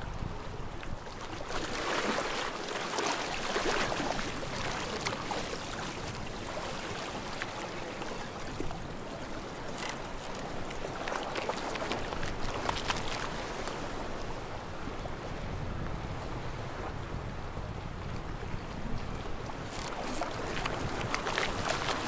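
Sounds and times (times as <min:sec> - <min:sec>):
sea water lapping at shore: 0:00.0 - 0:22.0.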